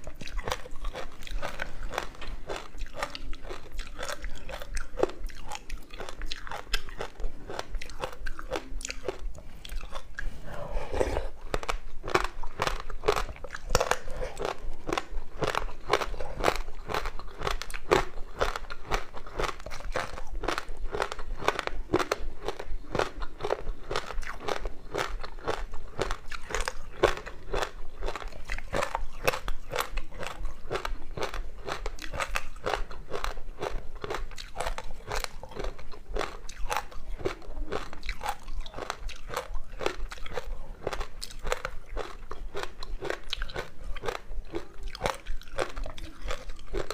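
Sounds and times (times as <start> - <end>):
crunching and chewing ice: 0.0 - 46.9.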